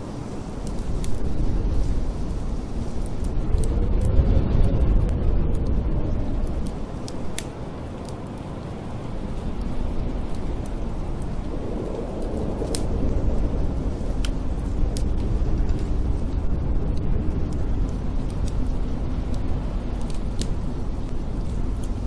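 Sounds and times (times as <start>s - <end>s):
blizzard wind rumble: 0.0s - 22.0s
wood fire crackling and popping: 0.0s - 22.0s.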